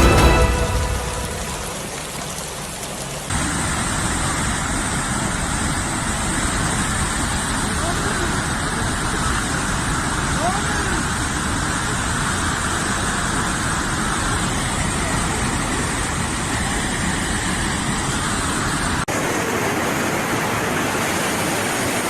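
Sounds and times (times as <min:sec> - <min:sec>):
wind and rain rushing: 0:00.0 - 0:22.0.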